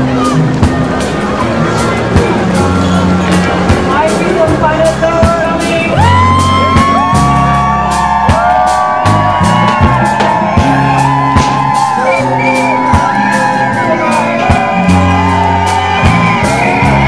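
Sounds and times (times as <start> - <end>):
held bass notes: 0.0 - 17.0
music with steady beat: 0.0 - 17.0.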